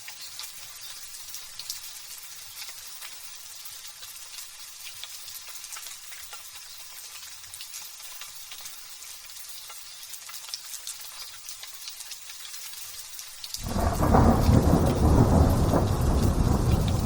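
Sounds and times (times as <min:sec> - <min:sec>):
light drizzle pattering: 0:00.0 - 0:17.0.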